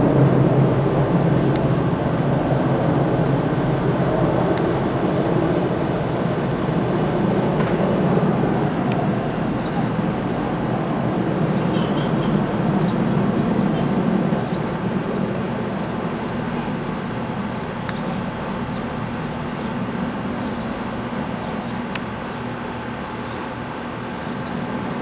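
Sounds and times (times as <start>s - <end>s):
helicopters flying overhead: 0.0s - 25.0s.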